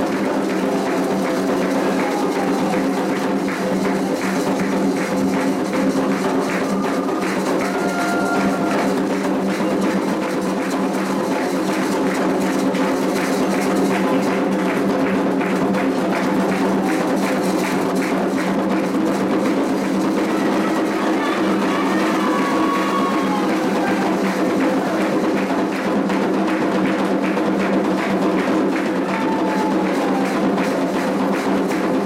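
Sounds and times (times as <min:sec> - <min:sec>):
drums beating: 0:00.0 - 0:32.0.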